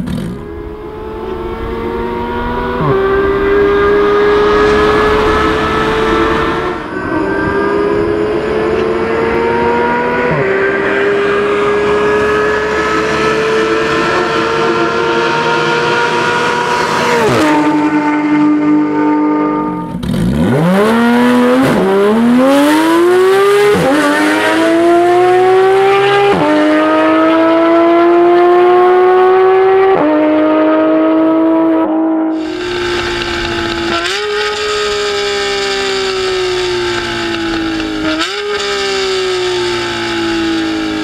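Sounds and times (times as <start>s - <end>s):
sports car engine accelerating: 0.0s - 41.0s.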